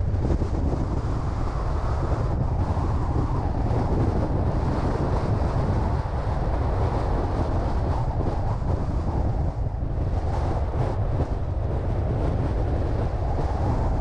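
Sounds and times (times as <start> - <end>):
car road noise: 0.0 - 14.0
wind rumble on microphone: 0.0 - 14.0.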